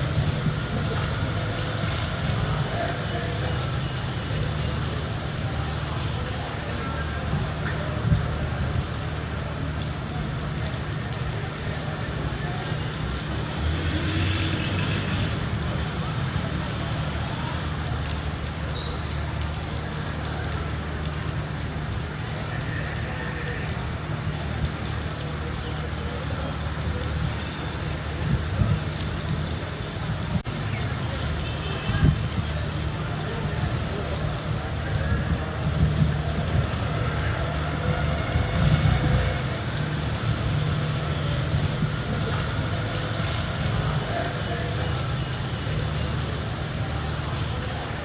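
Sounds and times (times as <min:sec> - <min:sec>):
rain falling: 0:00.0 - 0:48.0
vehicle engines passing: 0:00.0 - 0:48.0.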